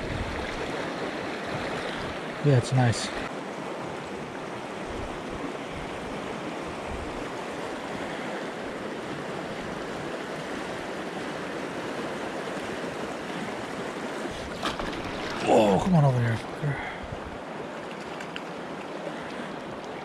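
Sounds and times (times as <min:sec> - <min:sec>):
fast-flowing river rushing: 0:00.0 - 0:20.0.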